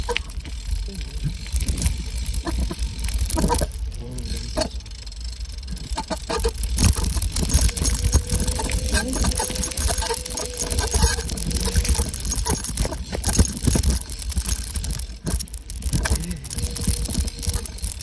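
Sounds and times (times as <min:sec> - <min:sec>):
bicycle rattling and clicking: 0:00.0 - 0:18.0
low rumble: 0:00.0 - 0:18.0.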